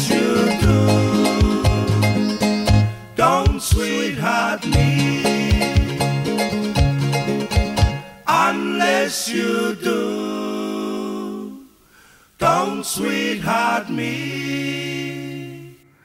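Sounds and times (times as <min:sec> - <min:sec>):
group singing a cappella: 0:00.0 - 0:06.3, 0:08.3 - 0:16.0.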